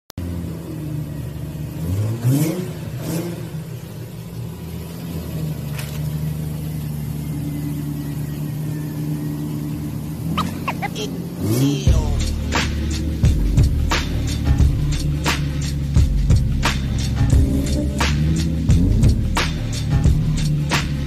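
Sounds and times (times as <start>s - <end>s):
car engine idling and revving: 0.2s - 21.0s.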